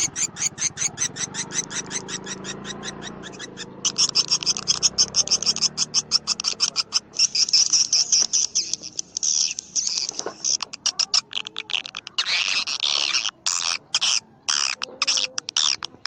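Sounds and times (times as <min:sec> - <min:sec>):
swiftlet clicking chirps: 0:00.0 - 0:16.0.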